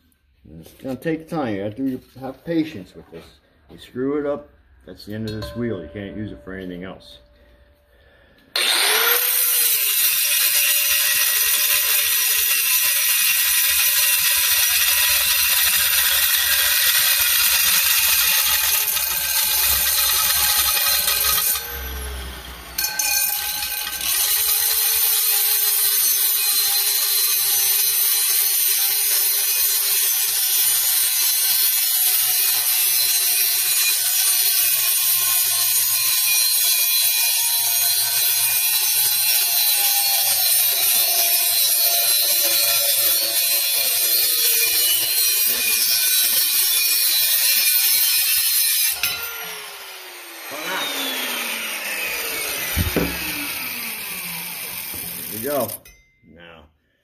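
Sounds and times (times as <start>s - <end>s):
angle grinder cutting steel: 8.5s - 56.0s.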